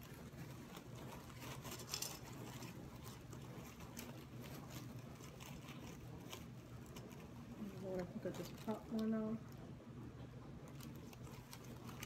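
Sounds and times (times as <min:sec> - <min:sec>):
artificial flowers rustling: 0:00.0 - 0:12.0.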